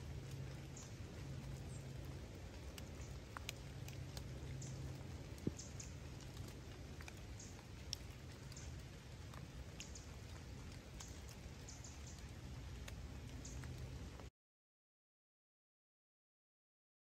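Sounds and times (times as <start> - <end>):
faint low rumble: 0.0 - 14.3
light rain patter: 0.0 - 14.3.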